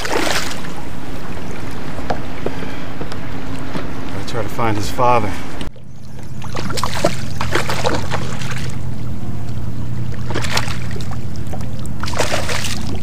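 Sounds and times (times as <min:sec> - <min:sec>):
water splashing against kayak: 0:00.0 - 0:04.2, 0:05.7 - 0:09.2, 0:10.0 - 0:13.0
steady low hum: 0:00.0 - 0:13.0.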